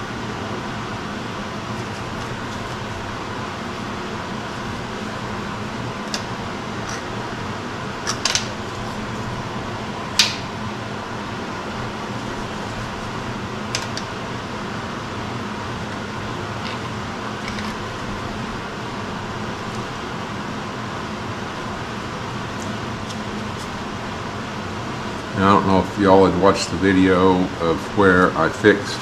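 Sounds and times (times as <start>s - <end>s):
fan-like shop hum: 0.0s - 29.0s.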